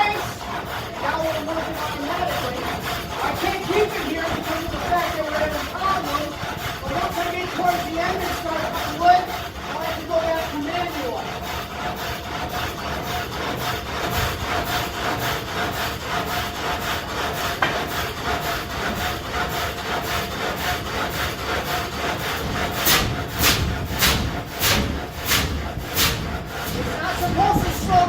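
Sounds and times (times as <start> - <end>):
saw blade reciprocating strokes: 0.0 - 28.0
saw rasping into log: 0.0 - 28.0.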